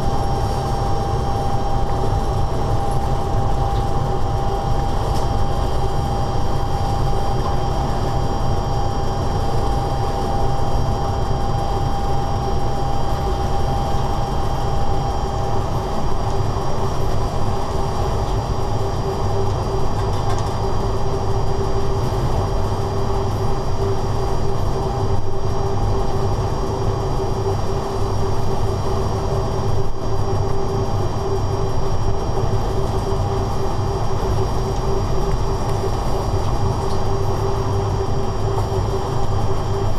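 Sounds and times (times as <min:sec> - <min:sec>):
continuous humming tone: 0:00.0 - 0:39.9.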